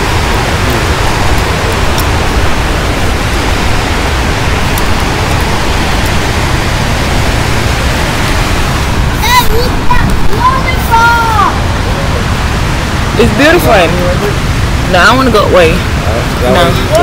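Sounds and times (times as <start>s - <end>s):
river water rushing over rapids: 0.0s - 17.0s.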